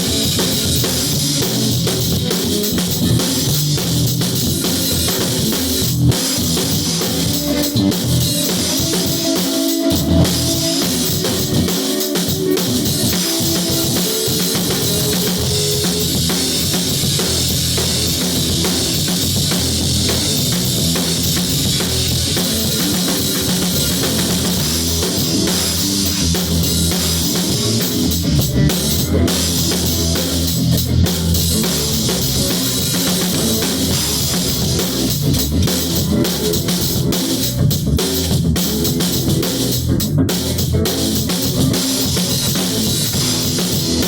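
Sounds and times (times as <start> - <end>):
rock music with drums and guitar: 0.0 - 44.0.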